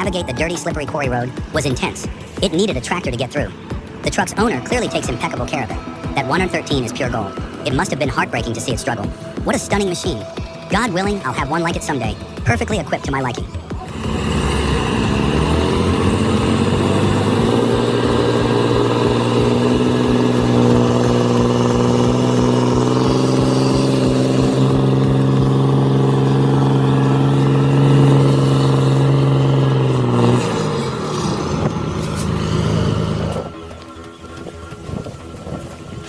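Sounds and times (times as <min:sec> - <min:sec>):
truck diesel engine revving: 0:00.0 - 0:36.0.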